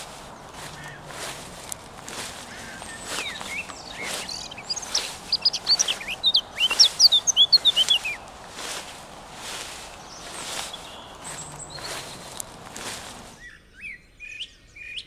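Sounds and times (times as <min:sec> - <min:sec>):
soft outdoor background hiss: 0:00.0 - 0:13.4
songbirds chirping: 0:00.0 - 0:15.0.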